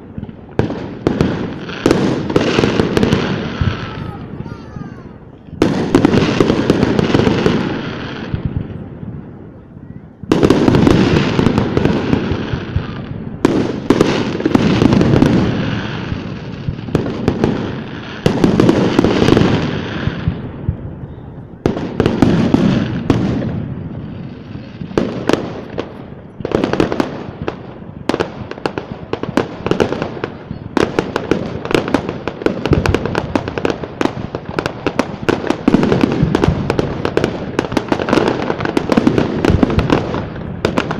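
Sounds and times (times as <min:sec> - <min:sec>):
firework shells booming: 0:00.0 - 0:09.0, 0:10.2 - 0:40.9.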